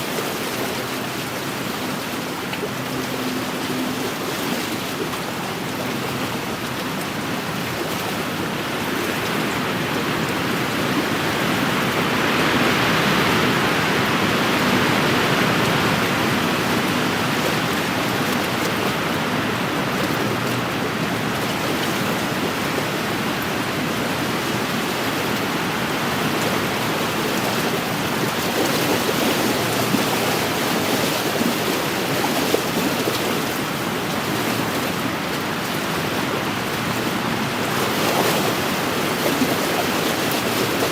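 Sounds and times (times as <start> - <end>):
waves washing against shore: 0.0 - 40.9
wind: 0.0 - 40.9.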